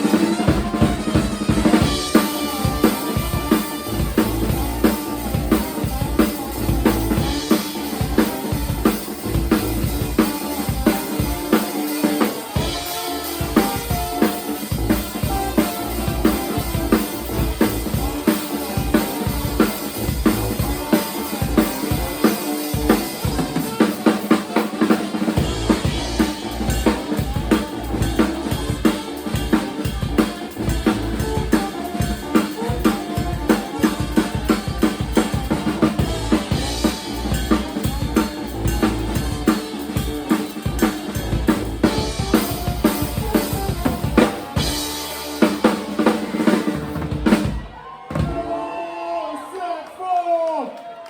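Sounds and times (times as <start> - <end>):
drum kit beat: 0.0 - 48.8
live band playing: 0.0 - 48.8.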